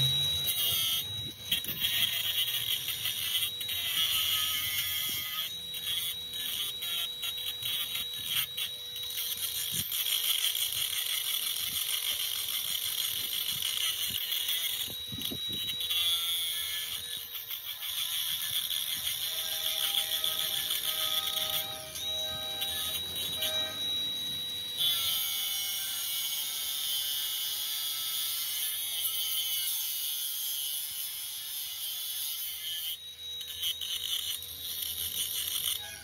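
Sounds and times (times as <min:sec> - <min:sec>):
angle grinder grinding steel: 0:00.0 - 0:36.0.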